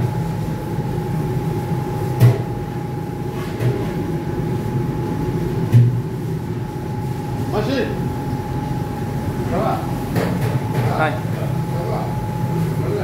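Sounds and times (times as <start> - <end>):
mechanical hum with high whine: 0.0 - 13.0.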